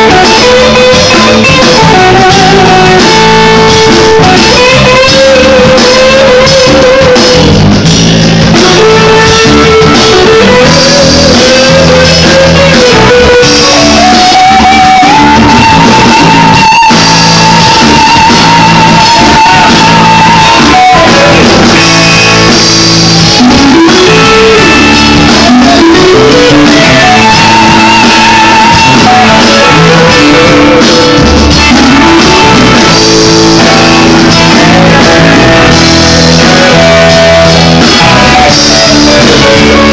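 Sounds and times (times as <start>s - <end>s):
drum kit: 0.0s - 39.9s
electric guitar: 0.0s - 39.9s
melody with vibrato: 0.0s - 39.9s.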